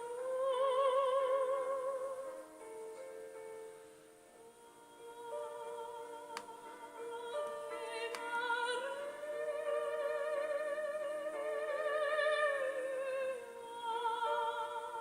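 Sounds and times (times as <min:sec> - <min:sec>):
slow operatic music: 0:00.0 - 0:15.0.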